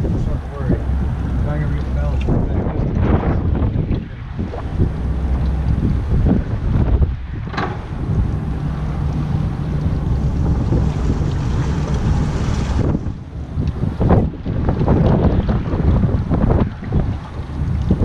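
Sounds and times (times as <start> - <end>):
outboard motor idling: 0.0 - 15.2
wind buffeting microphone: 0.0 - 18.0.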